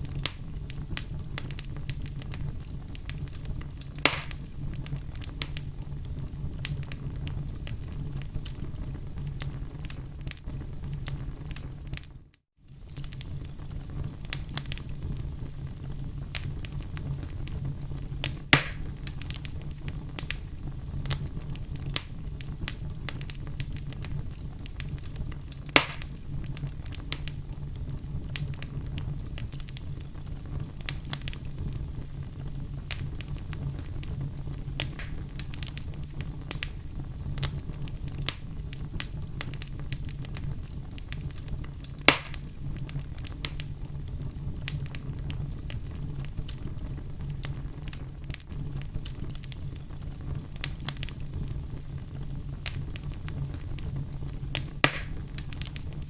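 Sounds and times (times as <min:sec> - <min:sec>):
loud pops from fire: 0:00.0 - 0:56.0
wood fire crackling: 0:00.0 - 0:56.0.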